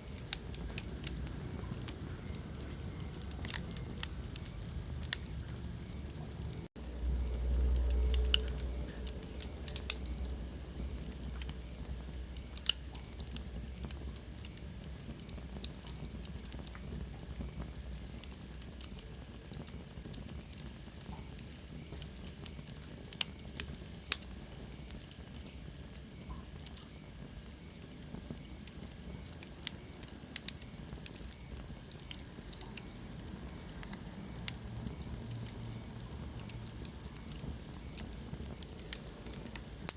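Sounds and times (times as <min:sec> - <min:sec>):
fire hissing: 0:00.0 - 0:39.9
wood fire crackling and popping: 0:00.0 - 0:39.9.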